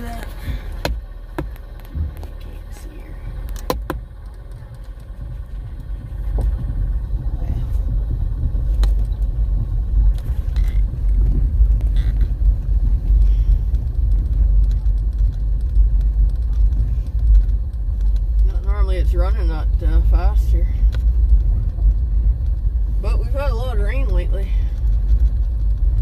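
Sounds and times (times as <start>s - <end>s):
sharp rattles and knocks: 0.0s - 26.0s
truck engine and road rumble: 0.0s - 26.0s.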